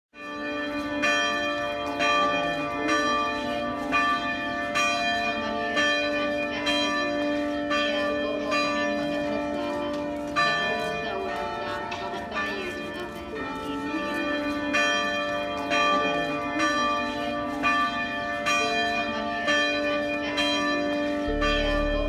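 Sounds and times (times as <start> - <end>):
church bells ringing: 0.2 - 22.0.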